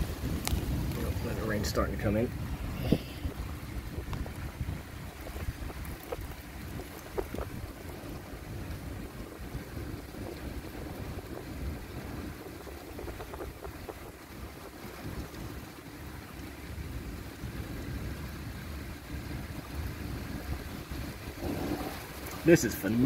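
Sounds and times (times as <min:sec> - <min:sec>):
thunder rumbling: 0:00.0 - 0:23.0.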